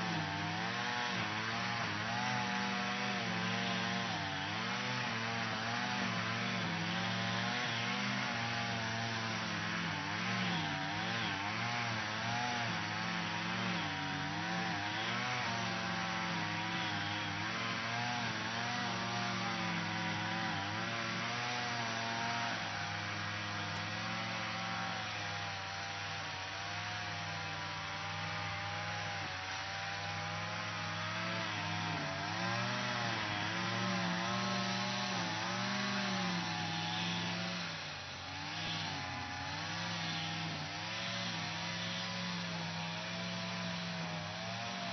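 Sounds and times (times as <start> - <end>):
lawn mower cutting grass: 0.0 - 44.9.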